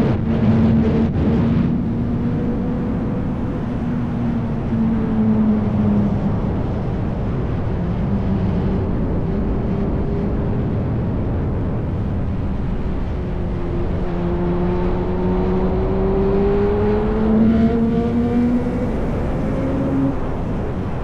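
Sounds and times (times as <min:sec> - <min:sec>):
motorcycle engine accelerating: 0:00.0 - 0:09.8, 0:11.6 - 0:21.0.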